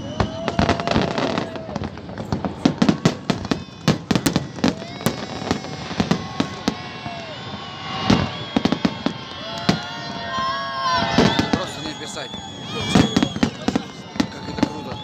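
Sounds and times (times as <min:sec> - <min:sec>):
firework bangs and crackles: 0:00.0 - 0:15.0
firework whistling: 0:00.0 - 0:15.0.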